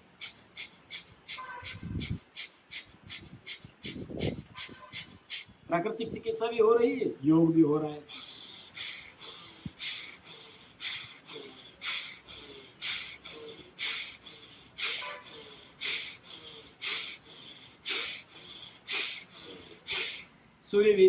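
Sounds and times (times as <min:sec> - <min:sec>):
person breathing forcefully through nose: 0:00.0 - 0:05.6, 0:08.1 - 0:20.3.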